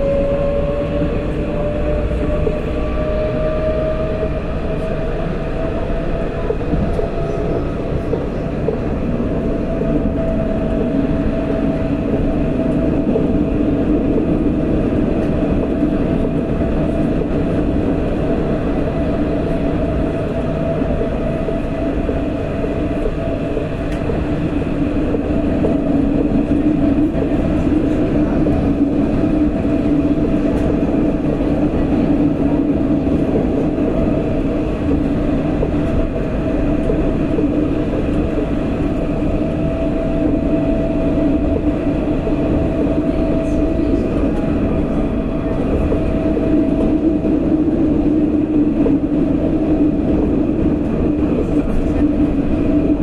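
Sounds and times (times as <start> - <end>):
tram wheels rumbling on rail: 0.0 - 53.0.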